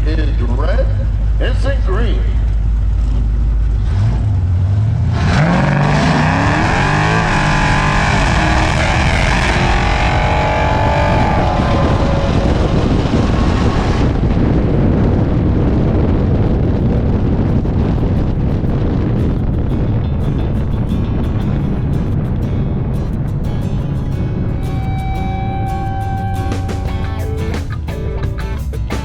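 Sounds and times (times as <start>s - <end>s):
wind and road noise: 0.0s - 29.0s
car engine accelerating with upshifts: 2.5s - 27.8s.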